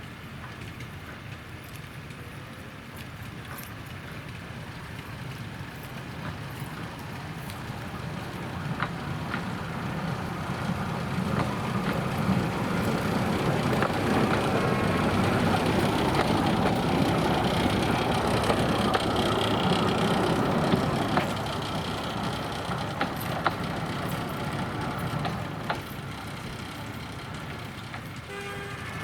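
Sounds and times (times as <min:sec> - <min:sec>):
diesel locomotive running: 0:00.0 - 0:29.0.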